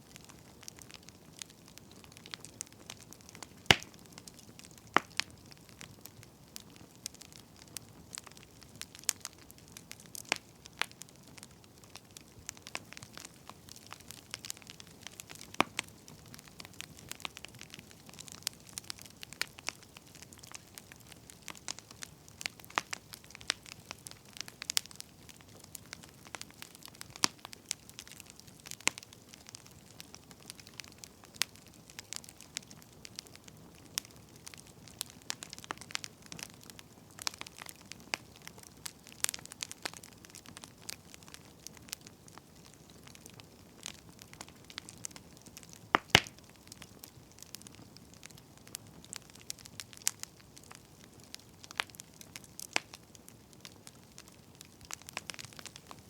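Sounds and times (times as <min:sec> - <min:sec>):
soft steady hiss: 0:00.0 - 0:56.0
wood fire crackling and popping: 0:00.0 - 0:56.0.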